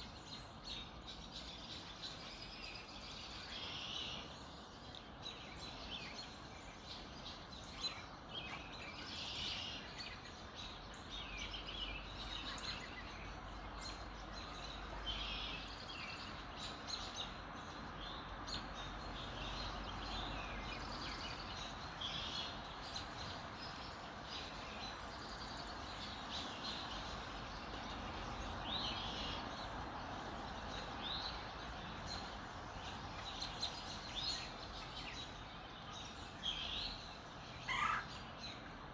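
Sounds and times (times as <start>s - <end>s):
outdoor ambience hiss: 0.0s - 38.9s
songbirds chirping and trilling: 0.0s - 38.9s.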